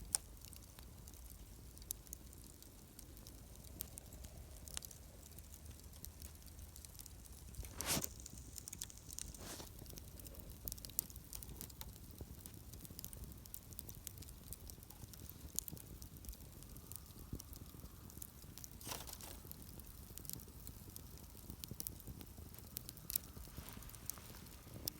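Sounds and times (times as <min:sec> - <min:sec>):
campfire crackling: 0:00.0 - 0:24.9
fire hissing: 0:00.1 - 0:24.9.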